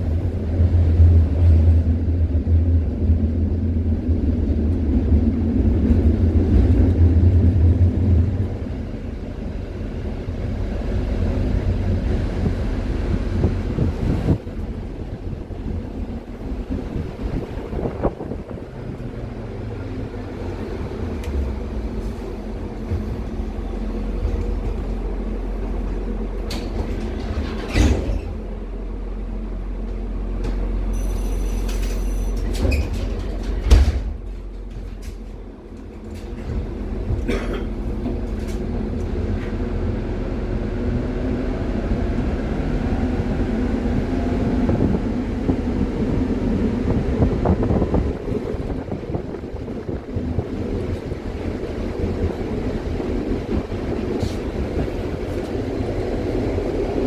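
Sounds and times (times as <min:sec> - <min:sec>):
tram wheels rumbling: 0:00.0 - 0:57.0.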